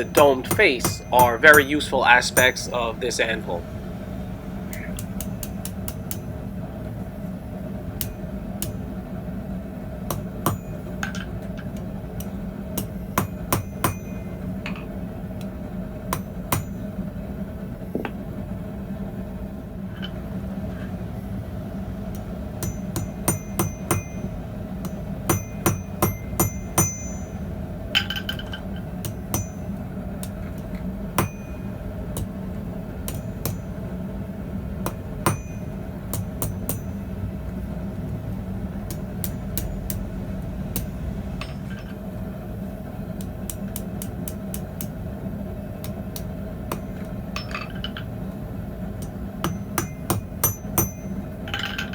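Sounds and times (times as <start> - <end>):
hammer striking hot steel: 0.0 - 3.6, 4.7 - 18.2, 22.0 - 38.0, 38.7 - 51.9
steady low hum: 0.0 - 51.9.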